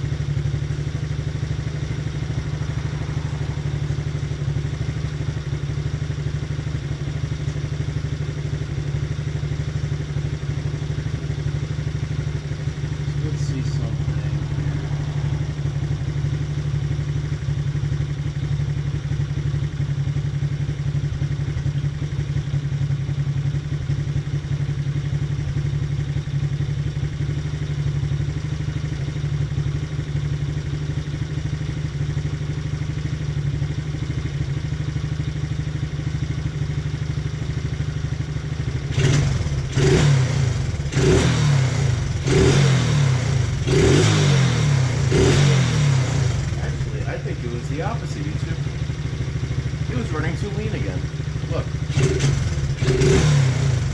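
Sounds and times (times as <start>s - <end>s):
small engine idling and revving: 0.0s - 53.9s.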